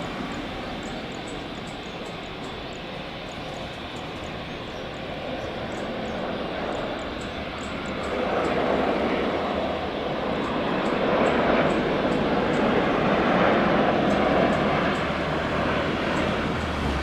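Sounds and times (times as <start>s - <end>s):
airliner engines rushing: 0.0s - 17.0s.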